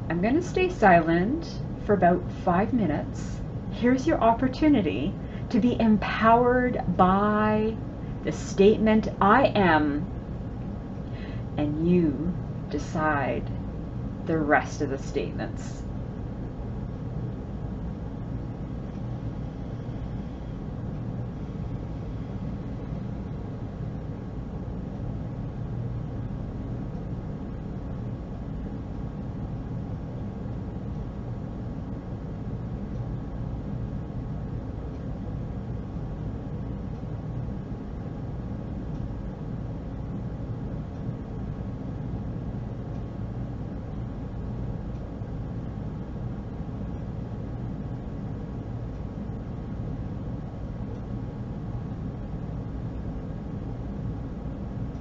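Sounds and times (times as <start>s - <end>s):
low rumbling background noise: 0.0s - 55.0s
steady low hum: 0.0s - 55.0s.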